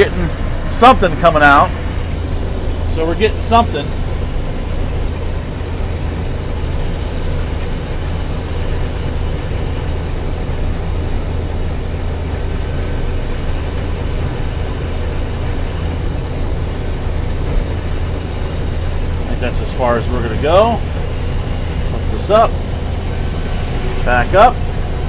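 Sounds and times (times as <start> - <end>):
combine harvester drone: 0.0 - 25.0.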